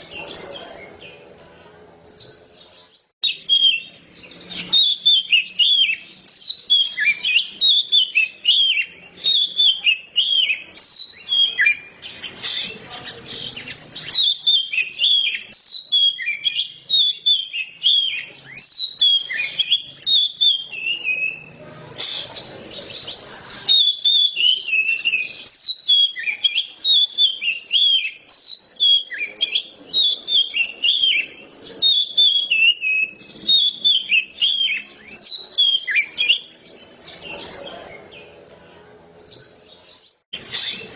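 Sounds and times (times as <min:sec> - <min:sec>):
bird singing whistled notes: 0:02.1 - 0:38.5, 0:39.2 - 0:40.9.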